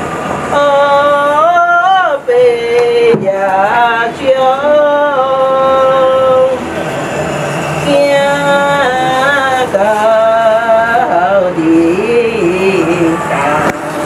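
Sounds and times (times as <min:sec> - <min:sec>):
person singing long sliding notes: 0:00.5 - 0:14.0.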